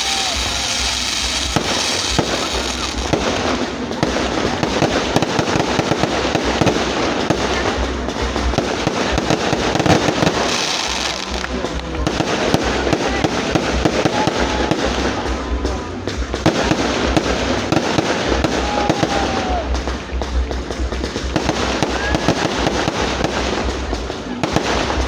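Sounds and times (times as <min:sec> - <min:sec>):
fireworks and firecrackers banging: 0:00.0 - 0:25.0.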